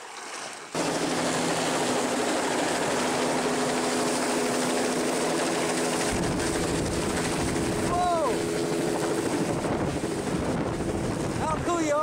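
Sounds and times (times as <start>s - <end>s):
steady hum: 0.8s - 11.4s
helicopter rotor and turbine: 0.8s - 12.0s.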